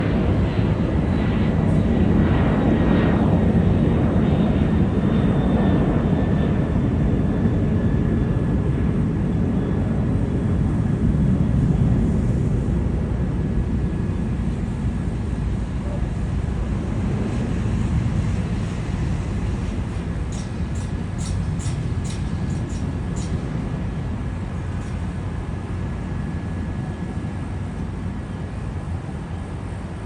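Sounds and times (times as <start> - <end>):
aeroplane engine rumble: 0.0 - 30.0.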